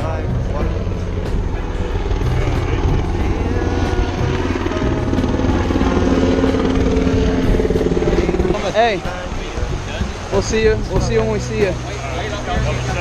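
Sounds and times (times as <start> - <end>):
music playing: 0.0 - 13.0
propeller engine running: 0.0 - 13.0.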